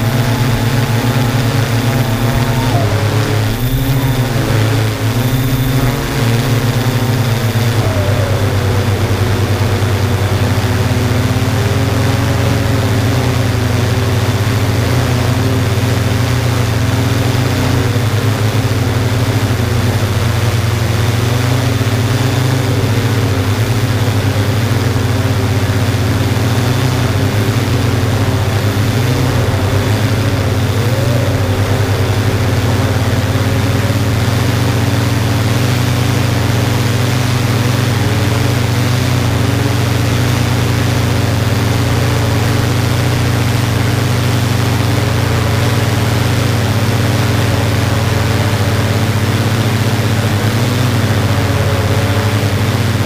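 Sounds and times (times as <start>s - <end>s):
drone propellers humming: 0.0s - 53.0s.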